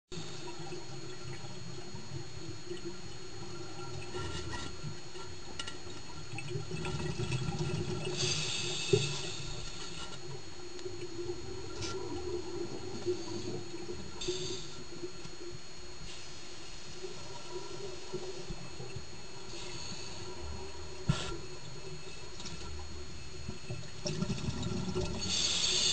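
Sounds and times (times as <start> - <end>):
faint steady hum: 0.1 - 25.9
underwater regulator bubbles: 0.2 - 16.2, 16.8 - 25.9.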